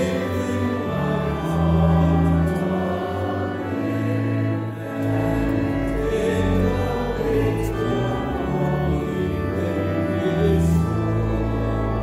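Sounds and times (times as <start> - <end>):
congregation singing a hymn: 0.0 - 12.0
pipe organ chords: 0.0 - 12.0.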